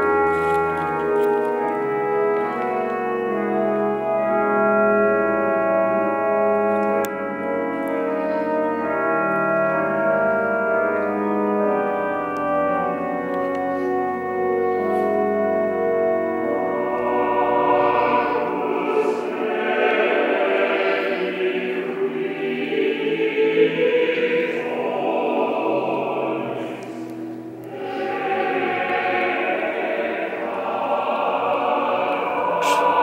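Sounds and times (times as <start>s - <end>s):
pipe organ chords: 0.0s - 33.0s.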